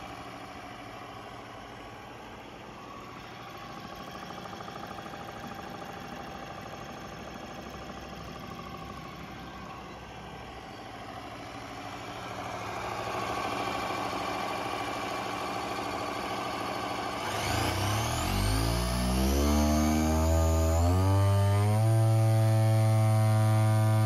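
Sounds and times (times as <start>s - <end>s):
electric boat motor humming: 2.8s - 24.0s.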